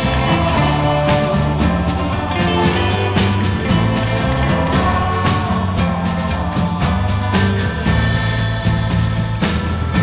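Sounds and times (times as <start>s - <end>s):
rock music with guitar: 0.0s - 10.0s.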